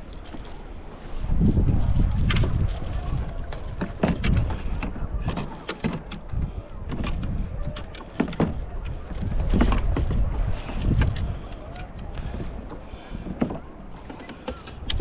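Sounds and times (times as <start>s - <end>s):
wind buffeting microphone: 0.0s - 15.0s
gear knocking against kayak: 1.9s - 15.0s.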